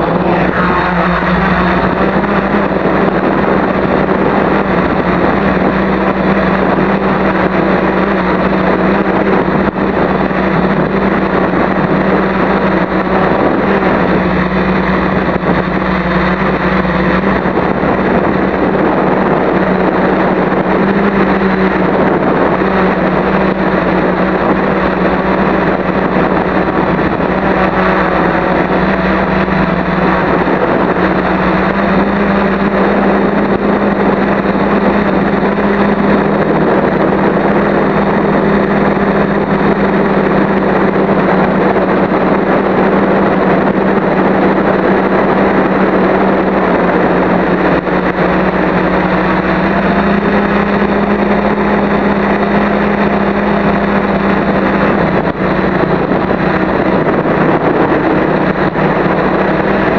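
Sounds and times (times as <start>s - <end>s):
quadcopter motors humming: 0.0s - 59.9s.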